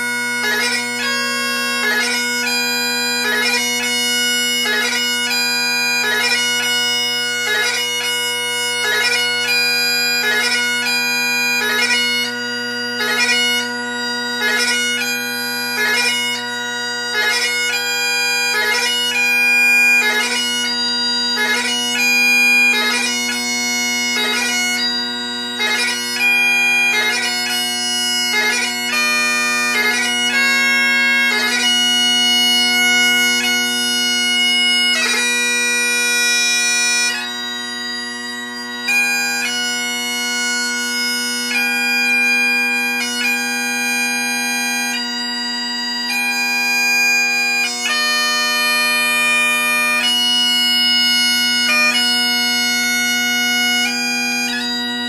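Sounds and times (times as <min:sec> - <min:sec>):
bagpipe melody with drones: 0:00.0 - 0:55.0.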